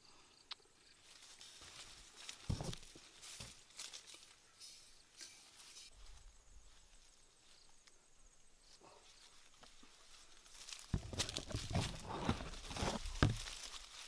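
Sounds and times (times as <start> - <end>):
leaves and twigs rustling: 0.8 - 14.0.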